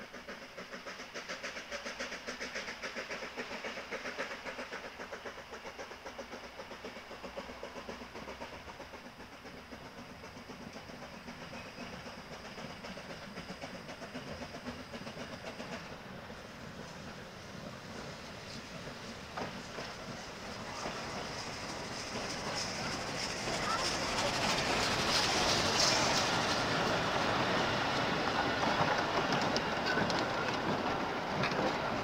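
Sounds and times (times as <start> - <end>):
steam locomotive chuffing: 0.0 - 32.0.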